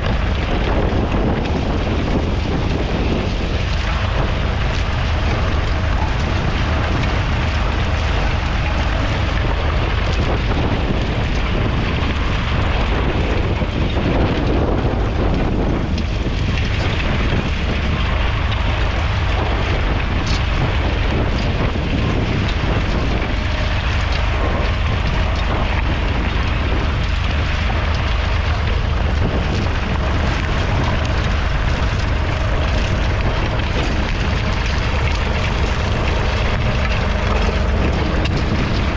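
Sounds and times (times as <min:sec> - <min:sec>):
diesel engine running: 0:00.0 - 0:38.9
wind buffeting microphone: 0:00.0 - 0:38.9.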